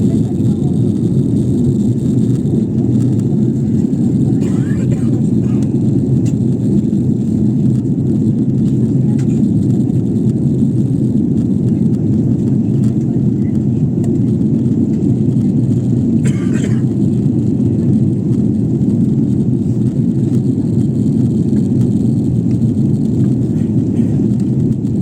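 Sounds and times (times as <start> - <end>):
jet engine and airflow roar: 0.0 - 25.0.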